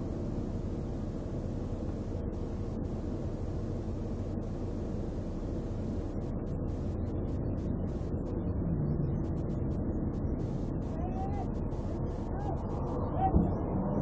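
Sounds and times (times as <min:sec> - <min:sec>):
highway traffic rumble: 0:00.0 - 0:14.0
hum: 0:00.0 - 0:14.0.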